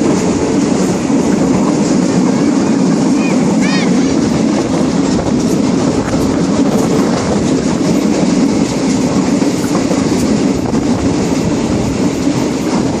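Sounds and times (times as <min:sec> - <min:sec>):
faint rail clacks: 0:00.0 - 0:13.0
train wheels rumbling: 0:00.0 - 0:13.0.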